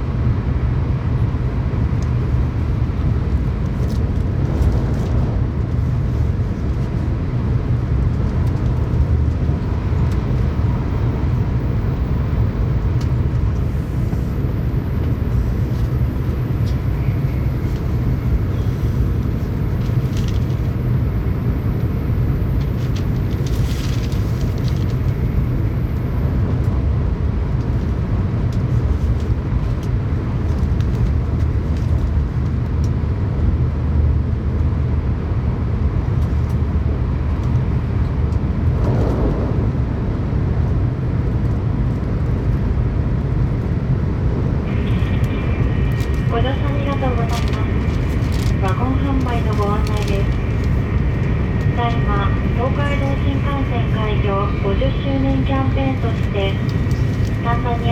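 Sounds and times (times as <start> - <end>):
train cabin low rumble: 0.0 - 57.9.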